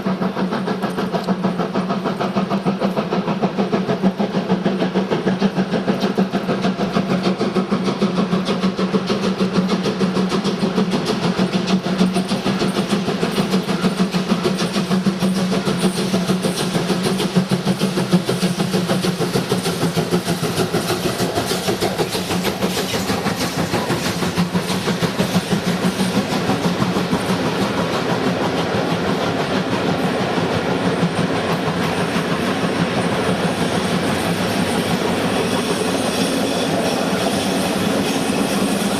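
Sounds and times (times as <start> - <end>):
train hum: 0.0 - 38.9
train wheels clicking on rails: 0.0 - 38.9.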